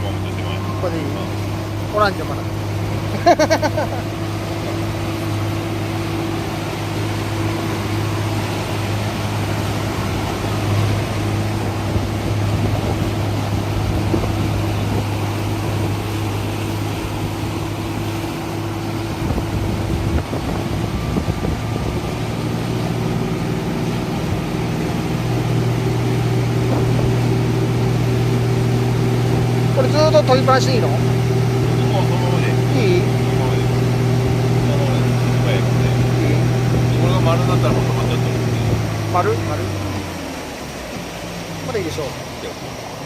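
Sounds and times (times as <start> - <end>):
motorboat engine idling: 0.0 - 43.0.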